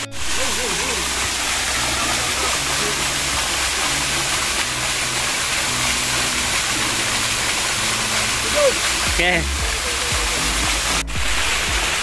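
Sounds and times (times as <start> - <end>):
water rushing down a drain: 0.0 - 12.0.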